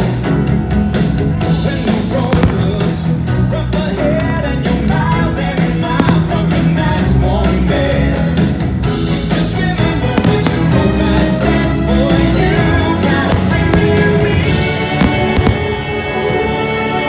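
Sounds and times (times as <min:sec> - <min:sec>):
guitar: 0:00.0 - 0:17.0
upbeat rock song: 0:00.0 - 0:17.0
person singing: 0:01.5 - 0:17.0.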